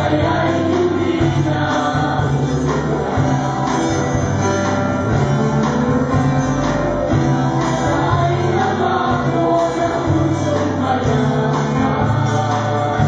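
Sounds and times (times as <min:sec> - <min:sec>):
bass line: 0:00.0 - 0:13.0
guitar: 0:00.0 - 0:13.0
live band playing worship song: 0:00.0 - 0:13.0.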